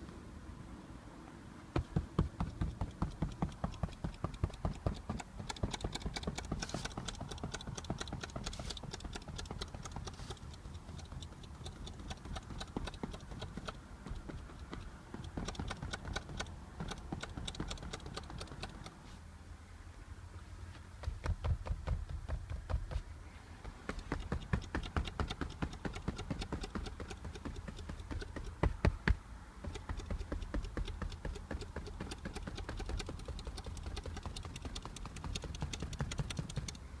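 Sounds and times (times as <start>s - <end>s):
car seat rattling: 1.8s - 18.9s, 23.6s - 36.8s.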